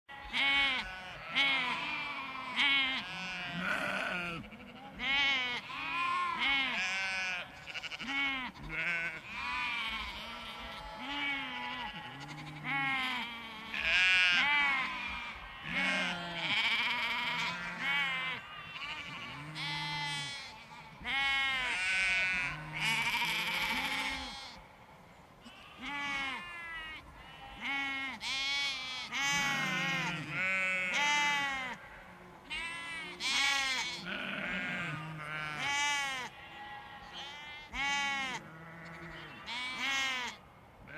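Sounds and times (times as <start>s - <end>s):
sheep and lambs bleating: 0.1s - 24.7s, 25.4s - 40.9s.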